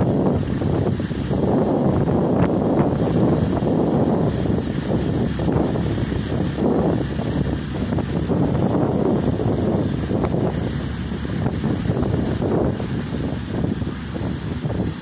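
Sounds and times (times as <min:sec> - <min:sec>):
motorcycles rumbling: 0:00.0 - 0:15.0
wind buffeting microphone: 0:00.0 - 0:15.0.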